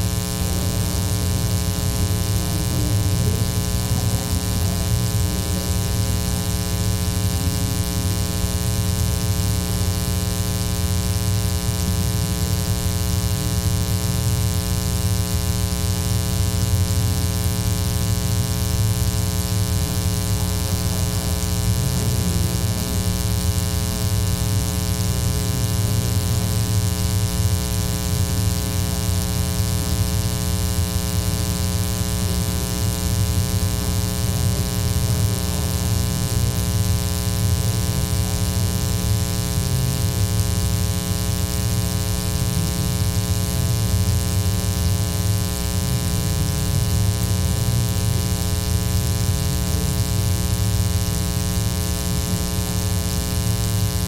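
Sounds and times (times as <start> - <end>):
buzzing mains hum: 0.0 - 54.0.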